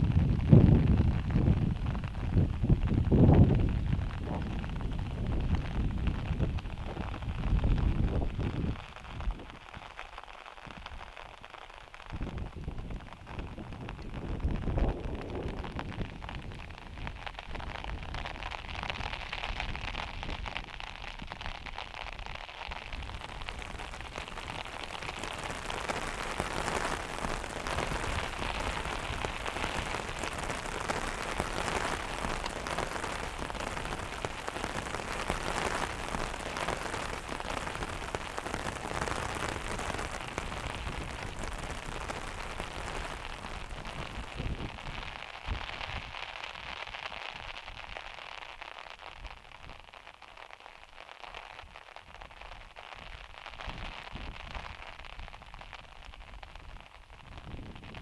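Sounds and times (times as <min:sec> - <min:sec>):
heavy rain on a metal roof: 0:00.0 - 0:48.0, 0:52.0 - 0:58.0.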